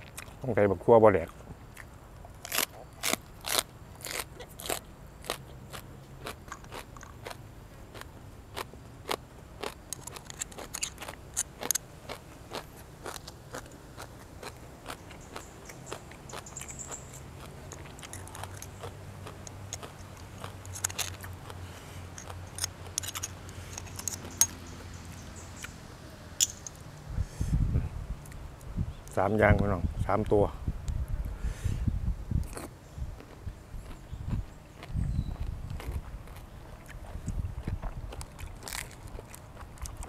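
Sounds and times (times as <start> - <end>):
crunching and chewing food: 0.0 - 25.8, 32.4 - 40.0.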